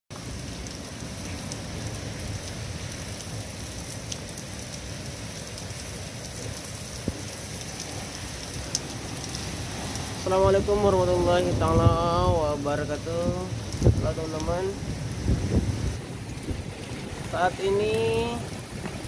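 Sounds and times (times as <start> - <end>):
heavy rain pouring: 0.1 - 19.0.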